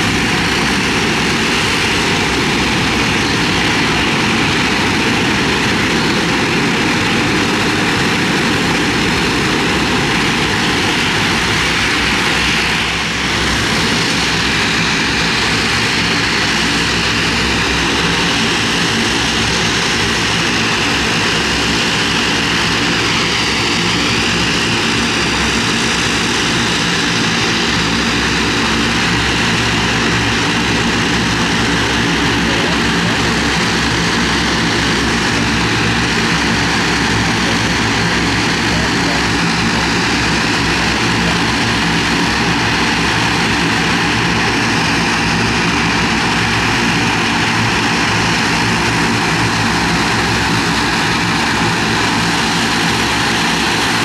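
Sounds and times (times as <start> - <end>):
propeller aircraft engines droning: 0.0 - 54.0.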